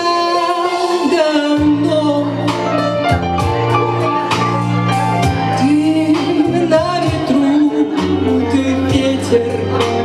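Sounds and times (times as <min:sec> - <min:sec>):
slow blues music: 0:00.0 - 0:10.0.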